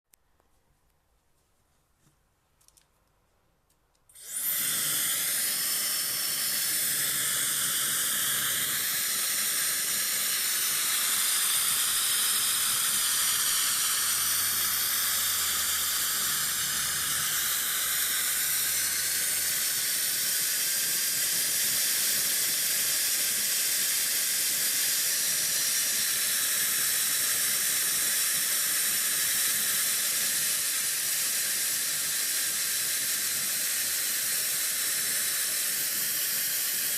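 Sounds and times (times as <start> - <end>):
hair dryer airflow hiss: 4.2 - 36.9.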